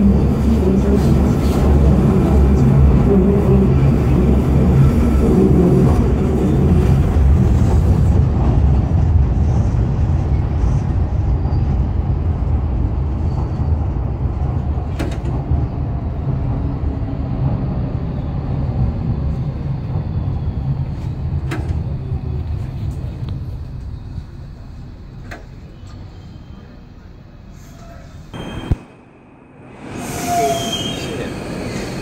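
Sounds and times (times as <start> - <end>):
train rumble inside carriage: 0.0 - 32.0.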